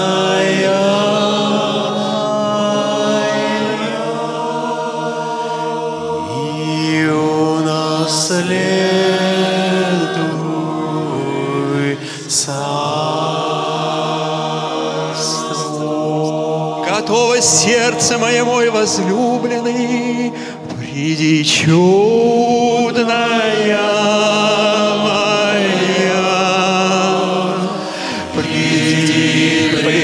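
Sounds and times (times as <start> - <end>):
voices chanting slowly: 0.0 - 30.0.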